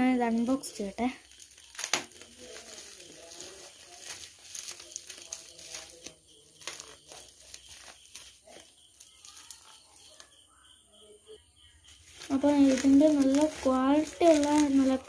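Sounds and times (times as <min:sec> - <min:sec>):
bubble wrap crinkling: 0:00.3 - 0:10.3, 0:11.9 - 0:15.0.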